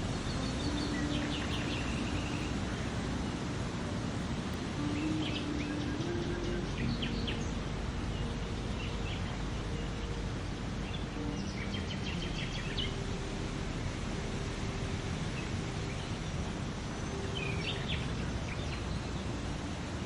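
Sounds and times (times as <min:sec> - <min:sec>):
songbirds chirping: 0:00.0 - 0:20.0
steady rushing background noise: 0:00.0 - 0:20.0.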